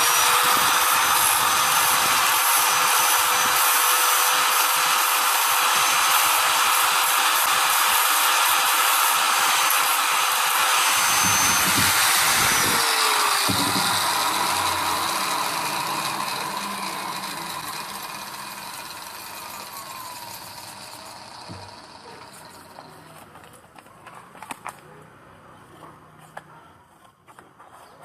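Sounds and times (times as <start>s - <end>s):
power tool whirring: 0.0s - 23.1s.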